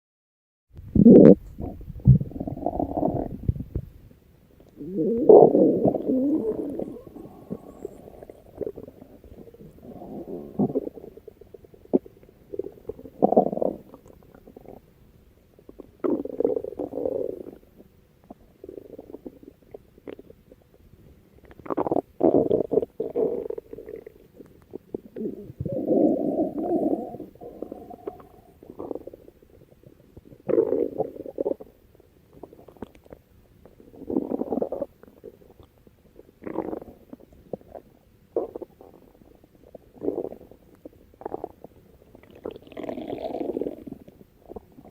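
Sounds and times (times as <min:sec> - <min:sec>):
stomach growling and gurgling: 0:00.8 - 0:04.0, 0:04.6 - 0:15.0, 0:15.6 - 0:44.9.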